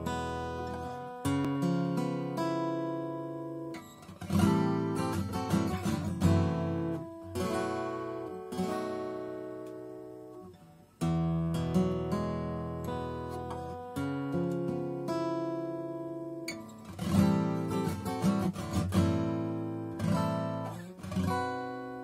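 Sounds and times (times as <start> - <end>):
acoustic guitar fingerstyle: 0.0 - 22.0.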